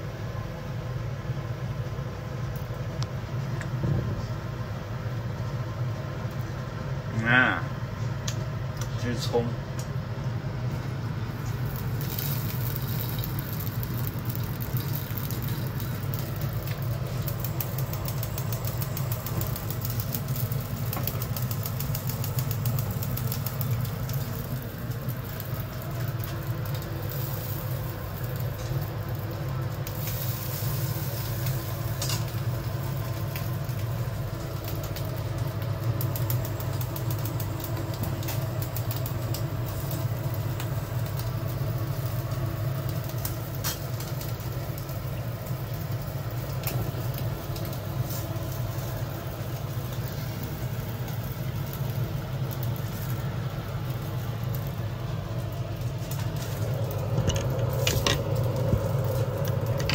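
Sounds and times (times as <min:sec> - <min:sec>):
gas burner rumbling: 0:00.0 - 0:59.9
kitchen fan noise: 0:00.0 - 0:59.9
faint crackles: 0:11.4 - 0:59.9.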